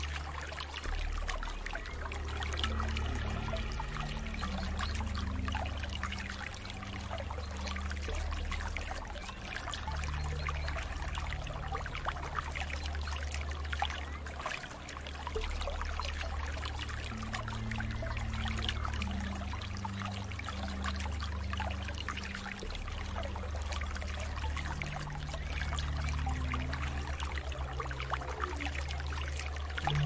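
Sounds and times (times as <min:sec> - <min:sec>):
low hum: 0:00.0 - 0:30.0
water flowing and splashing: 0:00.0 - 0:30.0.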